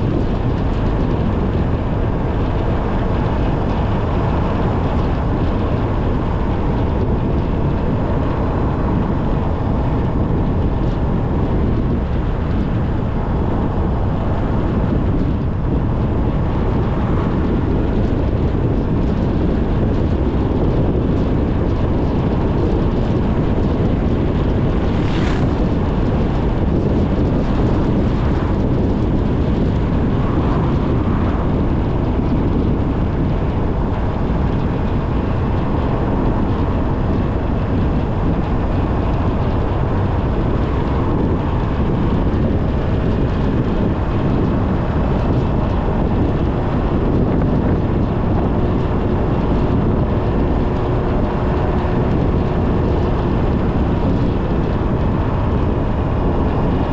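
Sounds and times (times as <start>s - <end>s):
vehicle road noise: 0.0s - 56.9s.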